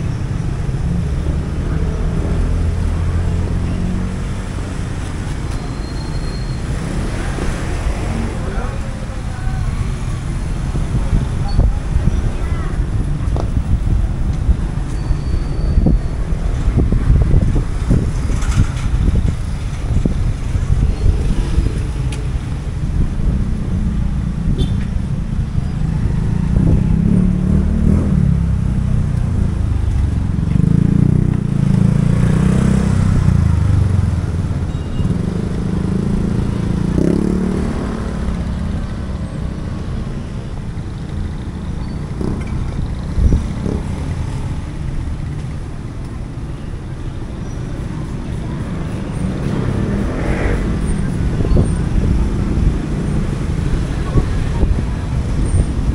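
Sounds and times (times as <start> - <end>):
traffic rumble: 0.0 - 55.9.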